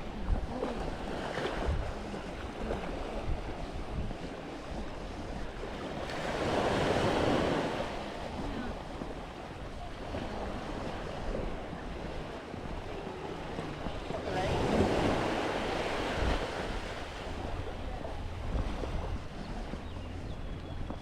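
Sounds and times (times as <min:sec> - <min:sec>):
waves breaking on a beach: 0:00.0 - 0:20.3
wind buffeting microphone: 0:00.0 - 0:21.0.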